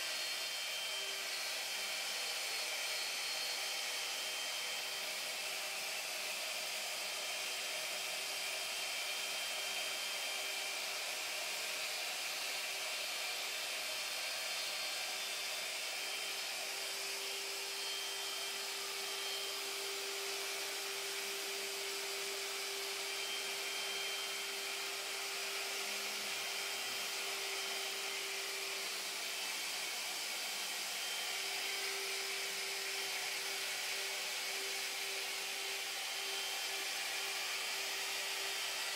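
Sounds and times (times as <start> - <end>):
router bit cutting wood: 0.0 - 38.9.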